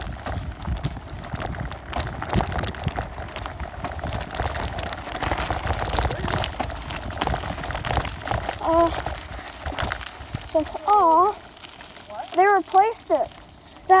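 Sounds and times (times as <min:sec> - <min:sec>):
low rumble: 0:00.0 - 0:12.1
bicycle rattling and clattering: 0:00.0 - 0:14.0.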